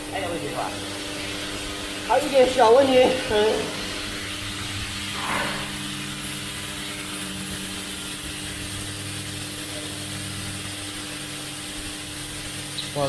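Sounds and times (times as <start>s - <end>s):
machine mechanical hum: 0.0s - 13.0s.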